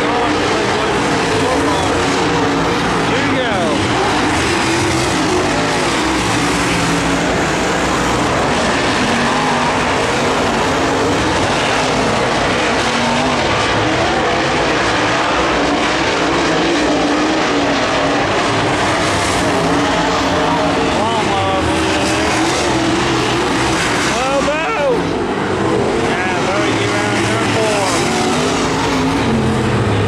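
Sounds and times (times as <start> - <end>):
race car engines: 0.0 - 30.0.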